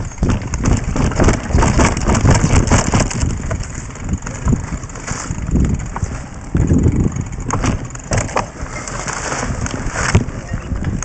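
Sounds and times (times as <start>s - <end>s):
bike rattling and knocking: 0.0s - 11.0s
tyres rumbling on dirt: 0.0s - 11.0s
wind on microphone: 0.0s - 11.0s.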